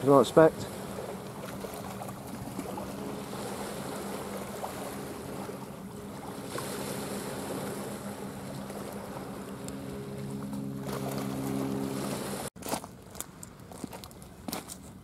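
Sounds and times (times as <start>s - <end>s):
boat engine droning: 0.0s - 12.5s
small waves on shore: 0.0s - 14.6s.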